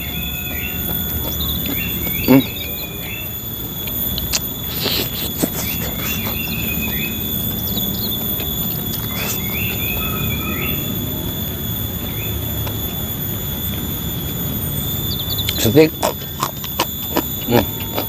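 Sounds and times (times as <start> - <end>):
high-pitched insect whine: 0.0 - 18.0
short chirping calls: 0.0 - 18.0.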